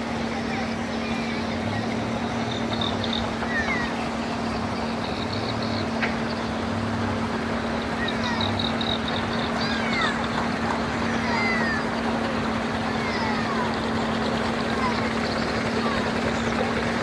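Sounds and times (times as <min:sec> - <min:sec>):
speedboat engine running: 0:00.0 - 0:17.0.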